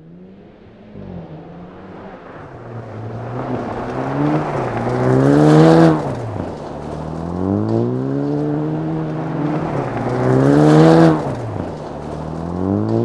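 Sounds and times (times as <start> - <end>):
car engine revving hard: 0.0 - 13.0
tyres on gravel: 1.8 - 13.0.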